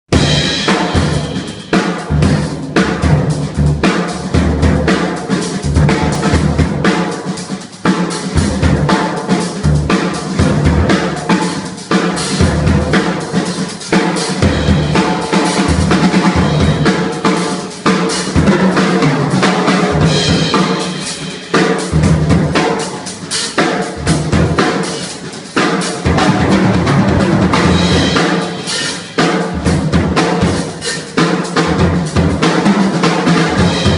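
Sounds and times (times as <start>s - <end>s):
jazz drum kit groove: 0.1s - 33.9s.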